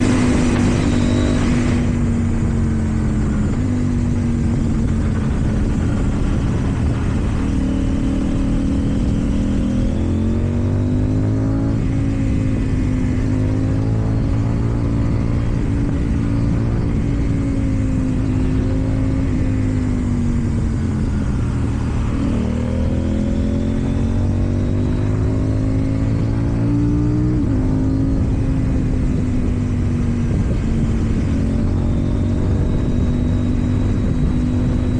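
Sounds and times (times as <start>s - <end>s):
motorcycle engine in traffic: 0.0s - 34.9s.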